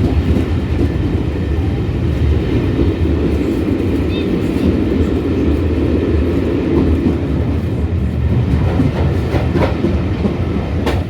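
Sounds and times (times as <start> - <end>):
train carriages rumbling in tunnel: 0.0 - 11.0.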